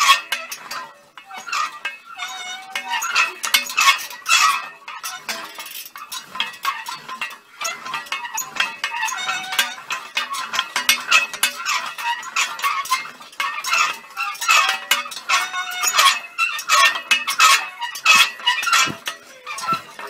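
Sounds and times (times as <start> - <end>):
metal pipes clinking and knocking: 0.0 - 20.0.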